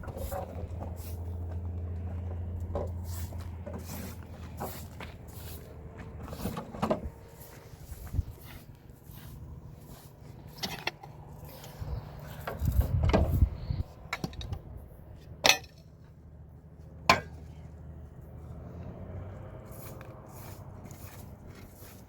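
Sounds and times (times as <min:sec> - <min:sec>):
low rumbling: 0:00.0 - 0:21.6.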